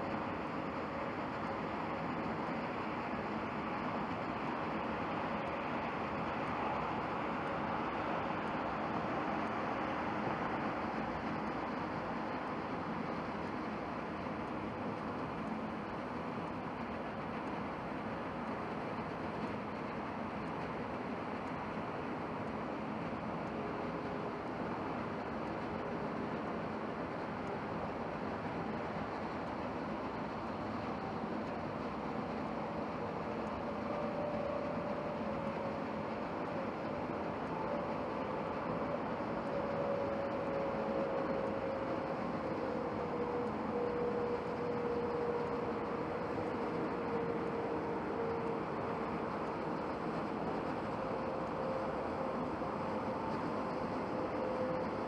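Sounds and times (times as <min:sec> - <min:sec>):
faint whine: 0:00.0 - 0:55.0
jet engines rushing: 0:00.0 - 0:55.0.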